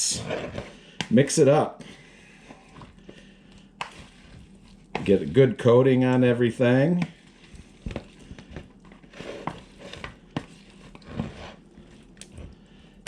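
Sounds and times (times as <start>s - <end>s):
food being stirred in a bowl: 0.1s - 13.0s.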